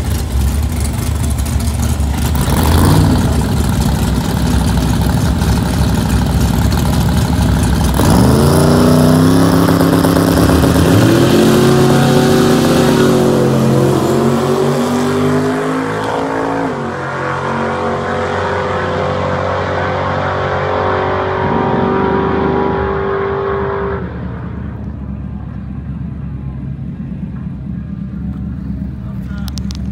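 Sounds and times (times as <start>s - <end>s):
race car engines accelerating: 0.0s - 29.9s.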